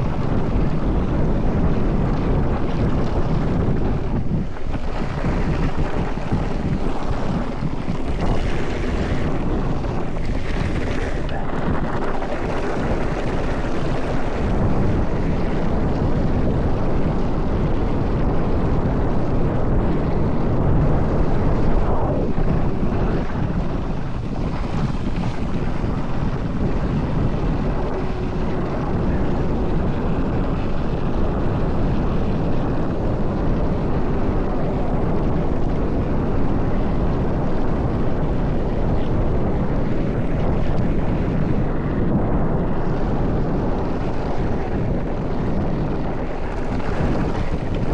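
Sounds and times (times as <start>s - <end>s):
bike tyre noise: 0.0s - 32.9s, 38.2s - 47.9s
wind buffeting microphone: 0.0s - 47.9s.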